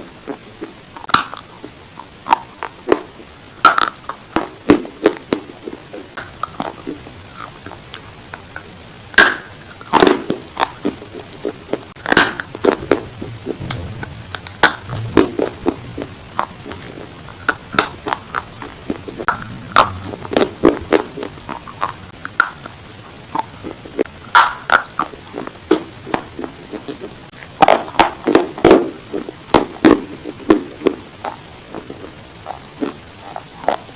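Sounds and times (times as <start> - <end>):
dry clay being chewed: 0.2 - 13.4, 14.9 - 33.9.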